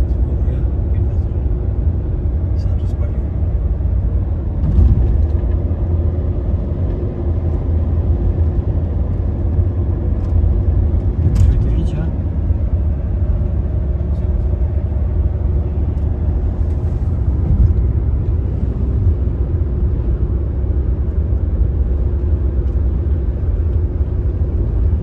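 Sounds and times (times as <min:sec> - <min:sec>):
car road noise rumble: 0:00.0 - 0:25.0.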